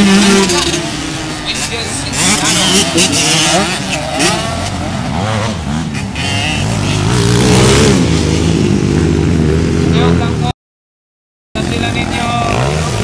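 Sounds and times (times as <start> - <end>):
minibike engines revving: 0.0 - 10.5, 11.6 - 13.0.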